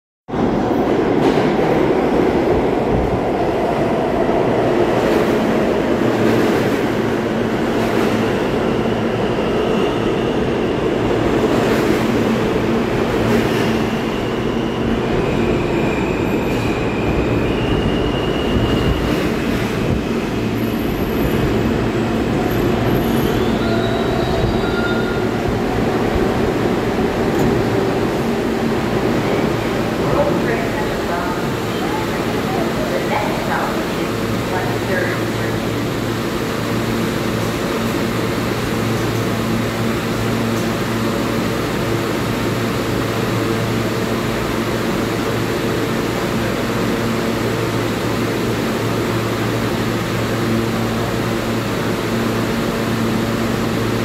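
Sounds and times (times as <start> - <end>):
subway train wheels rumbling: 0.3 - 54.0.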